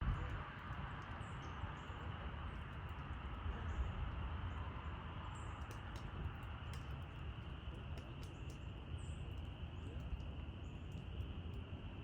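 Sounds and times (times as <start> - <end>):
low rumble and hiss: 0.0 - 12.0.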